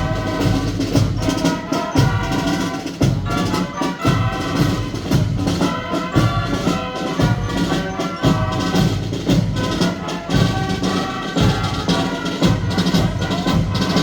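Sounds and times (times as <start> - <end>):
horn chords: 0.0 - 14.0.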